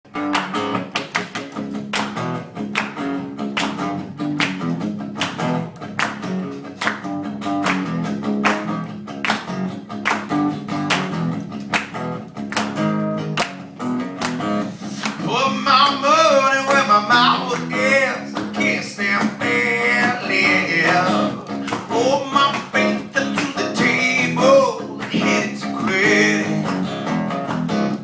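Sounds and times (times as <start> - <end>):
acoustic guitar strumming: 0.1 - 28.0.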